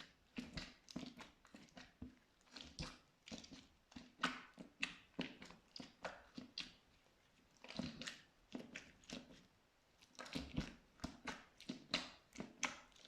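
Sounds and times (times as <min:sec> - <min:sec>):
slime squelching: 0:00.0 - 0:13.0.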